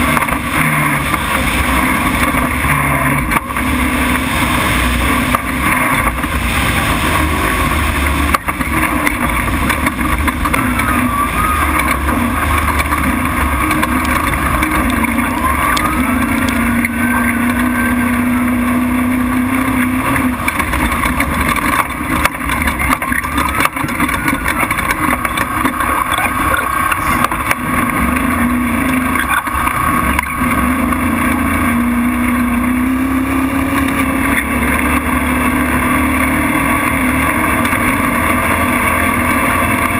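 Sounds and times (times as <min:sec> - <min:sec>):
truck engine running hard: 0:00.0 - 0:39.9
wind and road noise: 0:00.0 - 0:39.9.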